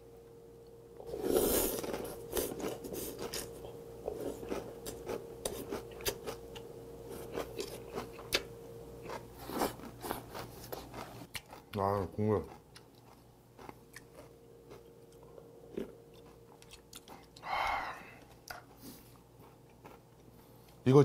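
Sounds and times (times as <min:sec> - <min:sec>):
crunchy chewing with mouth clicks: 0:01.0 - 0:17.5, 0:18.1 - 0:20.8.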